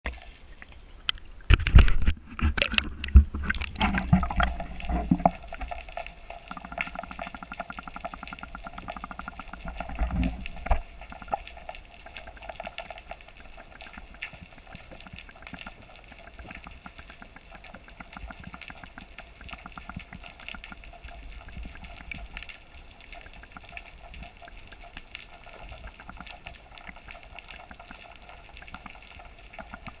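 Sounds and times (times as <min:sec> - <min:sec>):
muffled underwater wash: 0:00.0 - 0:30.0
water splashing and bubbling: 0:00.0 - 0:30.0.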